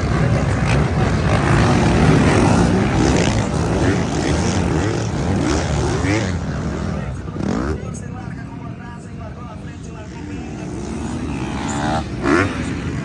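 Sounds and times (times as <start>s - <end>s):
motocross bikes accelerating: 0.0s - 13.0s.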